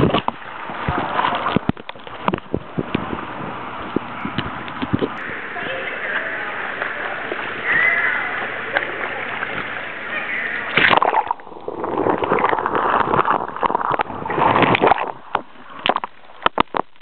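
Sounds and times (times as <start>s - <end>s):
churning water: 0.0s - 17.0s
water splashing: 0.0s - 17.0s.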